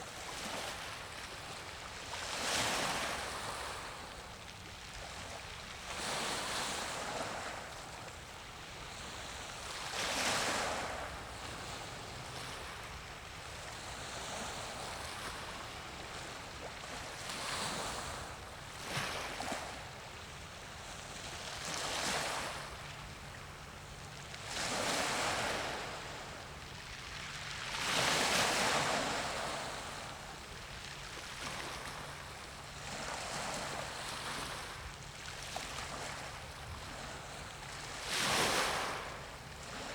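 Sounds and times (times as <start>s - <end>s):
small waves washing in: 0.0s - 39.9s.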